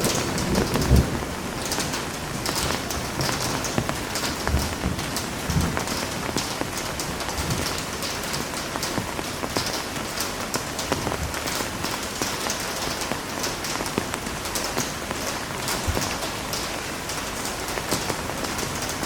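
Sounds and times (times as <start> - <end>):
heavy rain on a surface: 0.0 - 19.0.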